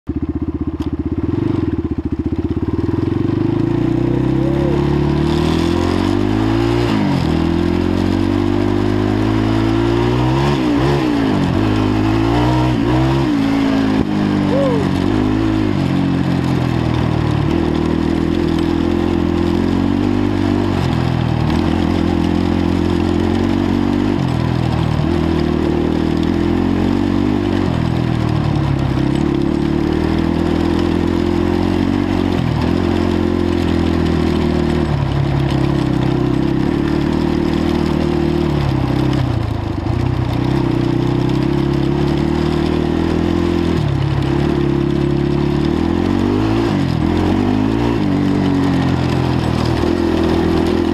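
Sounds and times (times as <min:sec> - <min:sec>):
quad engine revving: 0:02.6 - 0:50.9.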